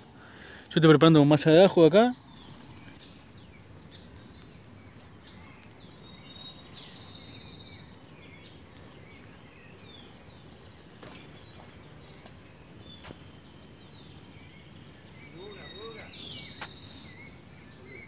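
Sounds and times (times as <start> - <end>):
insect drone: 0.0 - 18.0
bird chirps: 1.5 - 18.0.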